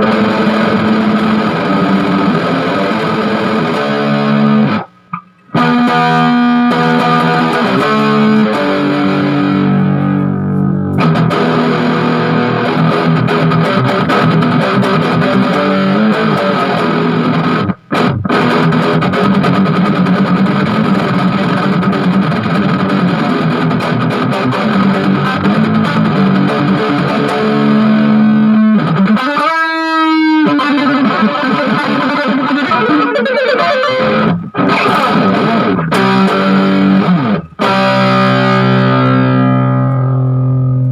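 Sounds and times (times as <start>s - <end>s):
distorted electric guitar riff: 0.0s - 40.9s.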